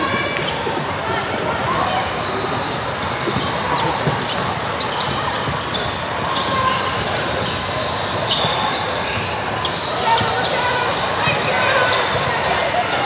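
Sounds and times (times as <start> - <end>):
echoing chatter in a hall: 0.0 - 13.0
sneaker squeaks: 0.0 - 13.0.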